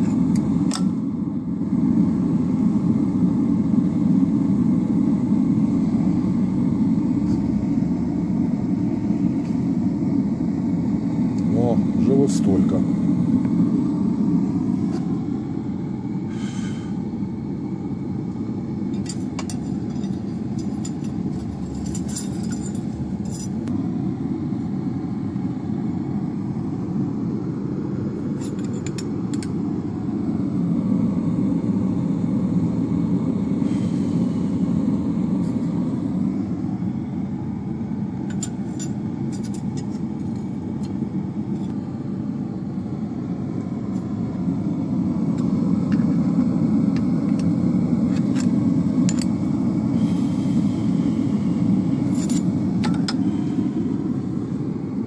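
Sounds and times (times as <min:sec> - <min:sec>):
machinery rumbling hum: 0:00.0 - 0:55.0.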